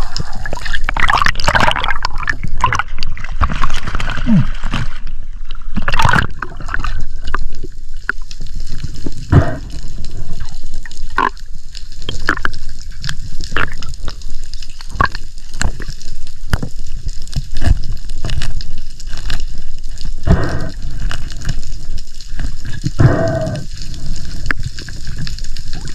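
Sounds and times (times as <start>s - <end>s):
water sloshing and gurgling: 0.0s - 25.9s.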